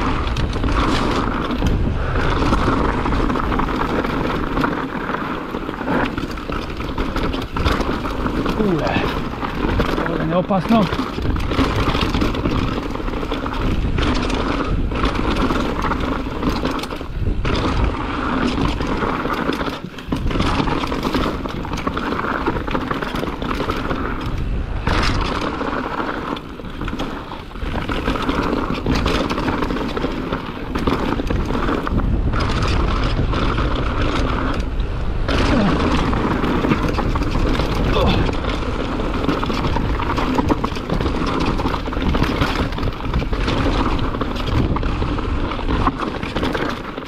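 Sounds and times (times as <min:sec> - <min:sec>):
bike rattling and knocking: 0:00.0 - 0:47.0
bike tyres rushing on dirt: 0:00.0 - 0:47.0.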